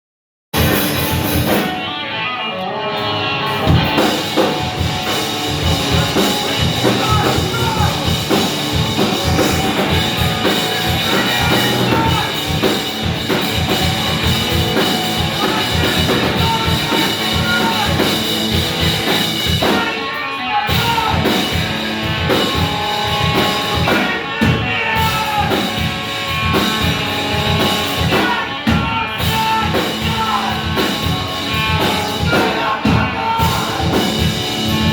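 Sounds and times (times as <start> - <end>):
rock band playing live: 0.6 - 34.9.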